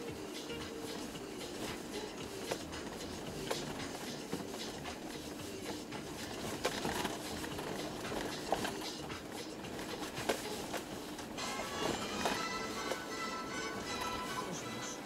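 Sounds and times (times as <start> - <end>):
car cabin road noise: 0.0 - 15.0.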